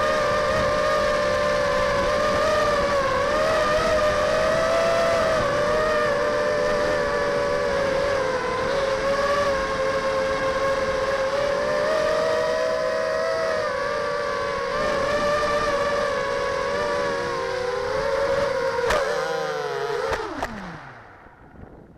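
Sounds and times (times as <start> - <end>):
quadcopter motors whining: 0.0 - 21.9.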